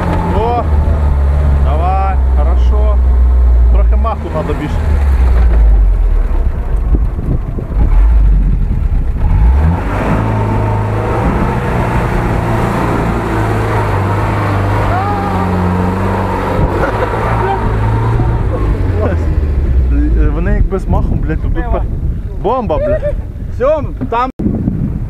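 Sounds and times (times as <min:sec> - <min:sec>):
engine revving under load: 0:00.0 - 0:20.8.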